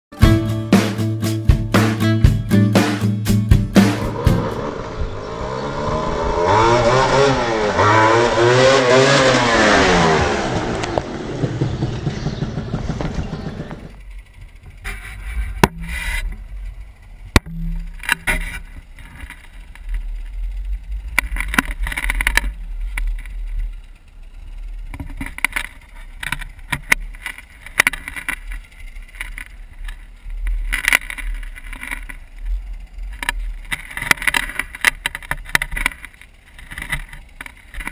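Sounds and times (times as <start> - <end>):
two-stroke engine revving: 2.8 - 37.9
low rumble: 3.1 - 34.8.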